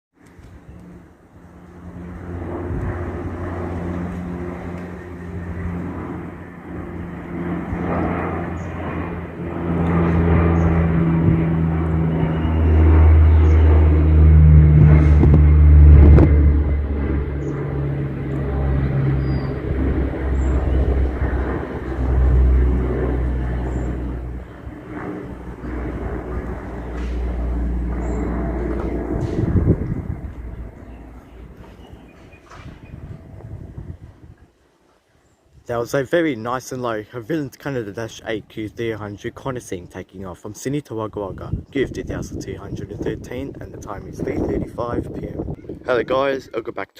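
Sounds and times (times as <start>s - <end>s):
turboprop aircraft propeller drone: 0.1s - 46.9s.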